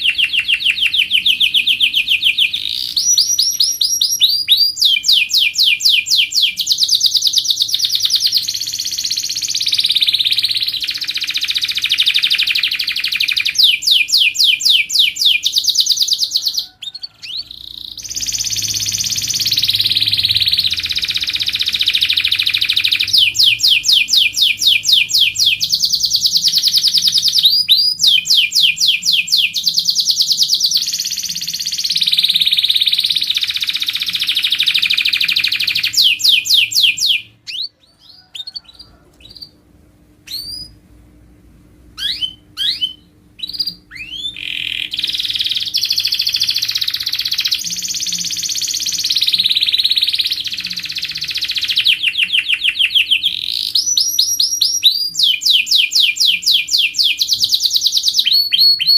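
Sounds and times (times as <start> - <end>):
canary singing trills and whistles: 0.0 - 39.6, 40.2 - 40.8, 42.0 - 58.9.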